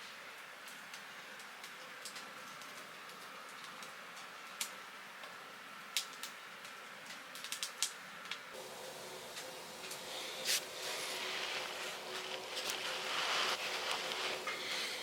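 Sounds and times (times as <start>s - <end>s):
fire hissing in wood stove: 0.0s - 15.0s
firewood crackling and popping: 0.0s - 15.0s.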